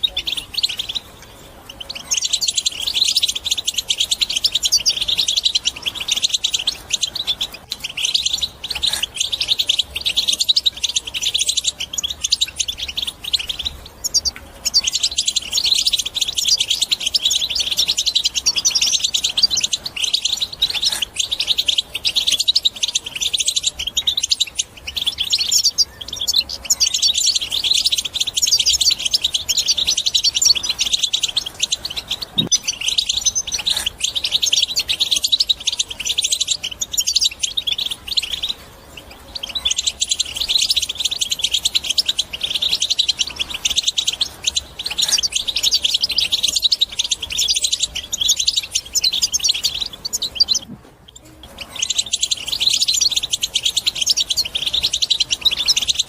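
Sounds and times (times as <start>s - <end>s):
goldfinch twittering song: 0.0s - 56.0s.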